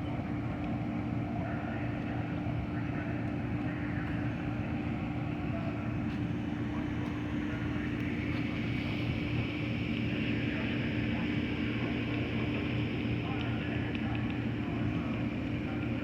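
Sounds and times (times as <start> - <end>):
diesel locomotive droning: 0.0 - 16.0.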